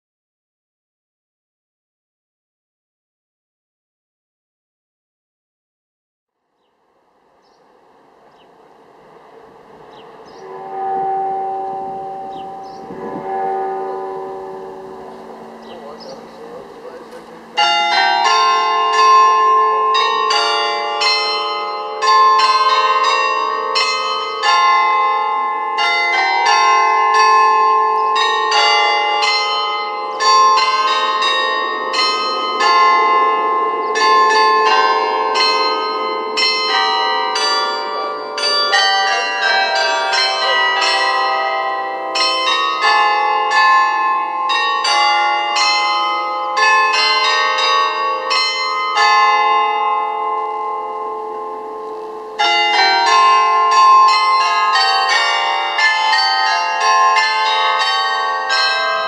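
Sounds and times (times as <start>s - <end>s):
carillon bells playing a tune: 10.4s - 59.0s.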